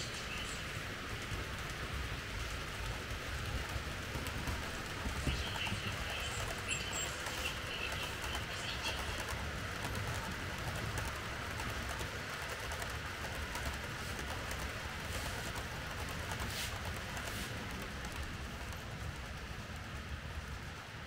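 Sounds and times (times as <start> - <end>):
model train rolling: 0.0 - 21.0.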